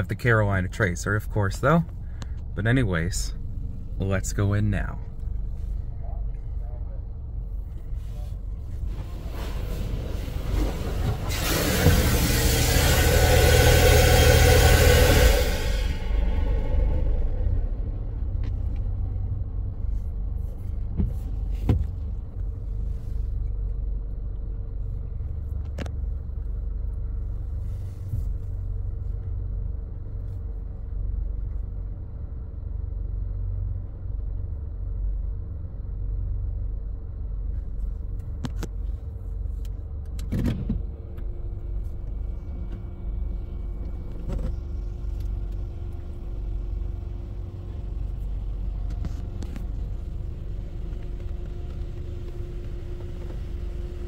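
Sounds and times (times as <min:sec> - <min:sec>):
car engine idling: 0:00.0 - 0:54.0
faint steady hum: 0:00.0 - 0:54.0.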